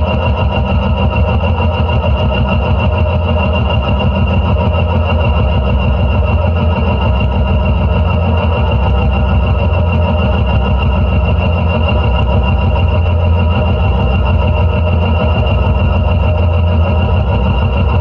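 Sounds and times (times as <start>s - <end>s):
dense noise drone: 0.0s - 18.0s.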